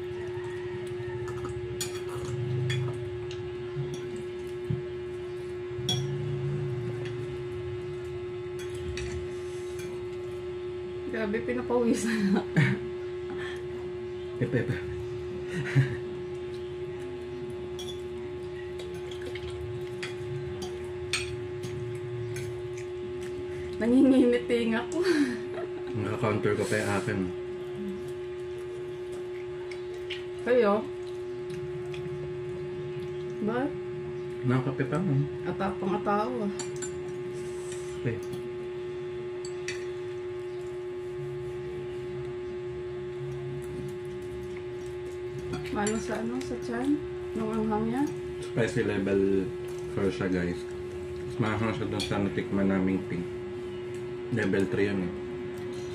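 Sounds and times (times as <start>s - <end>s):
low hum: 0.0s - 55.9s.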